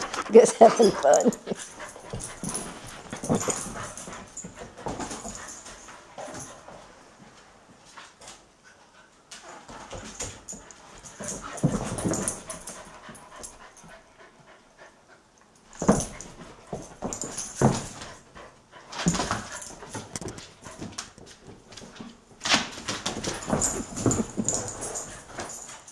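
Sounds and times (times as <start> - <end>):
dogs playing and vocalising: 0.0 - 7.2, 8.6 - 25.9.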